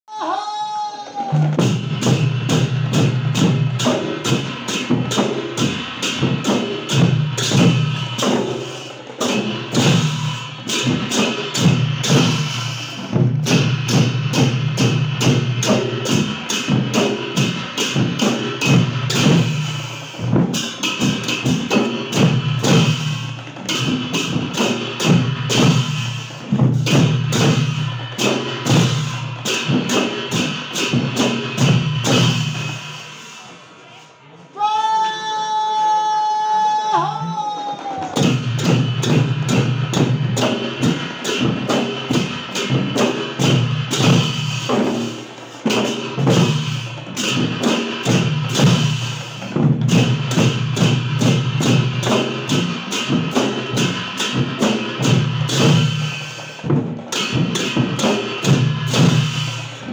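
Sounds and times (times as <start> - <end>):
fast percussion beat: 1.1 - 33.6, 36.8 - 59.9.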